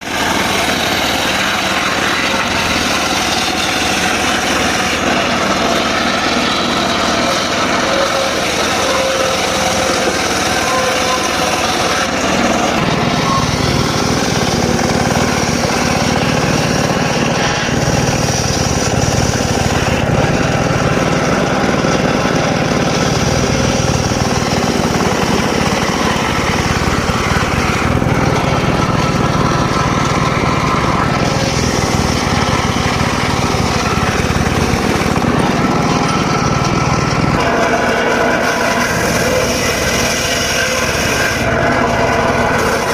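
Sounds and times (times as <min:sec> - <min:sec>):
circular saw cutting wood: 0:00.0 - 0:42.9
deeper hum: 0:00.0 - 0:42.9.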